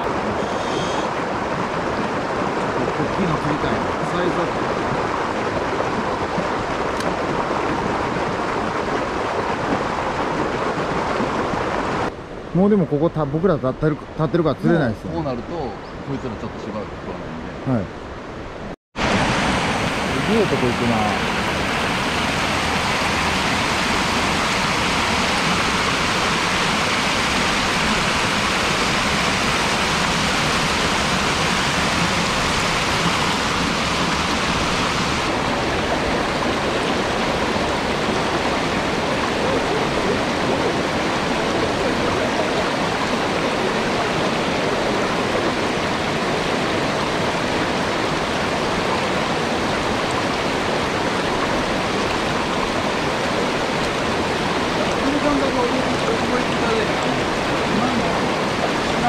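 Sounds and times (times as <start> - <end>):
stream water rushing over rocks: 0.0 - 59.0.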